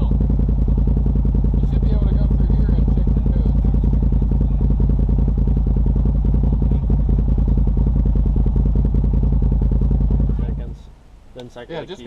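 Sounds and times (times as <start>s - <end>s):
off-road vehicle engine idling: 0.0s - 12.0s.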